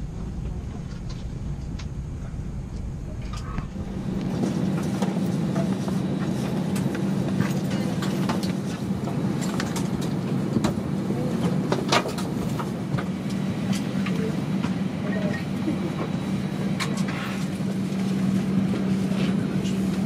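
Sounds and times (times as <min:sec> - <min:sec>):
aircraft cabin hum: 0:00.0 - 0:20.0.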